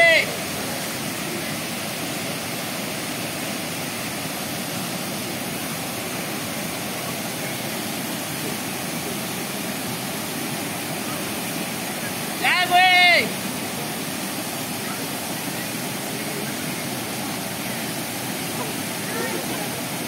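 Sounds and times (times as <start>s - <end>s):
waterfall pouring into pool: 0.0s - 20.0s.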